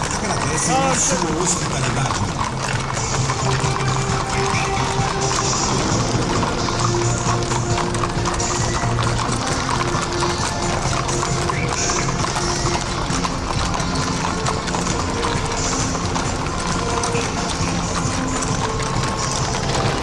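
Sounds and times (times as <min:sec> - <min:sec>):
horse hooves clip-clopping on road: 0:00.0 - 0:20.0
music playing: 0:00.0 - 0:20.0.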